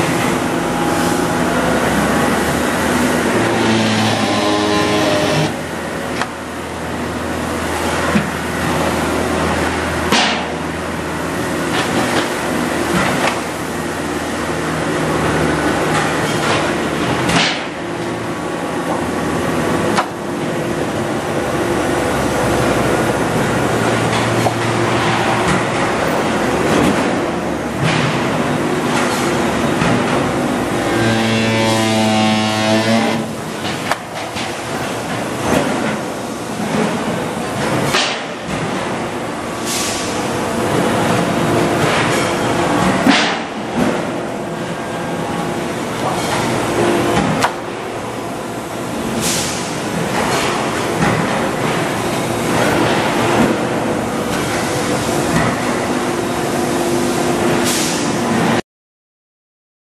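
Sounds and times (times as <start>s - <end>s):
factory machinery humming: 0.0s - 58.6s.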